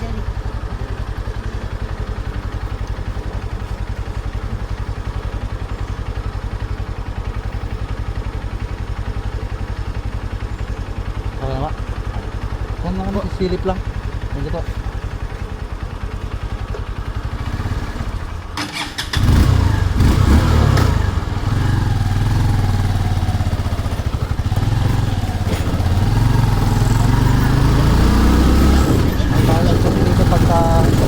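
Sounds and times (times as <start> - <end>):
vehicle engine idling and revving: 0.0 - 31.0.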